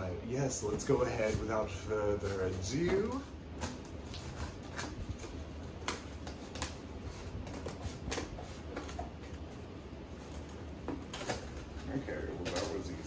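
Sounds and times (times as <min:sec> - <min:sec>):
low steady hum: 0:00.0 - 0:13.0
packaging crinkling and rustling: 0:00.7 - 0:13.0.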